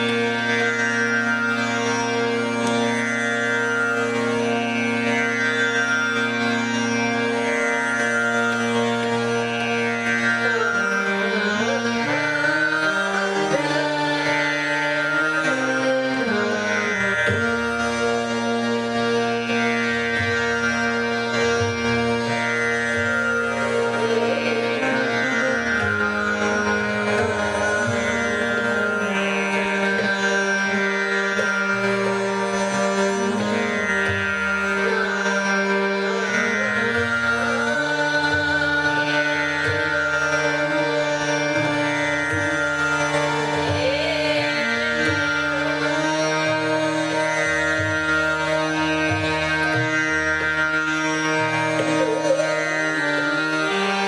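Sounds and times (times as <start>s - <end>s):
tabla playing: 0.0s - 6.3s, 6.9s - 54.0s
harmonium: 0.0s - 54.0s
tanpura drone: 0.0s - 54.0s.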